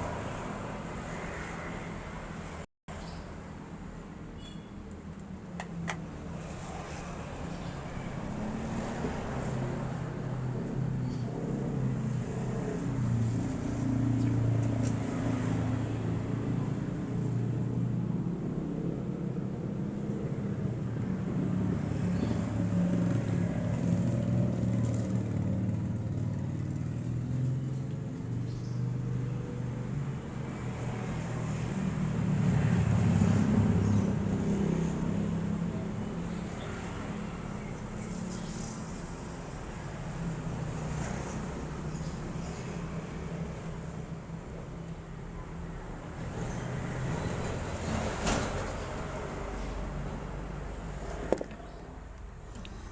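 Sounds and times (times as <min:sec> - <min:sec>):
traffic engines rumbling: 0:00.0 - 0:52.9.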